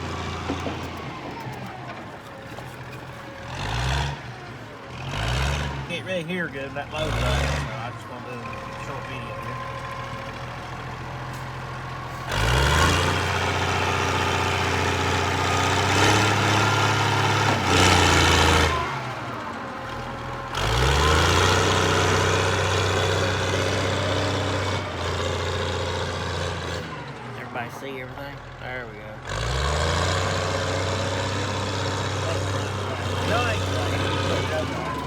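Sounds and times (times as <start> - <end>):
loader engine revving: 0.0 - 35.0.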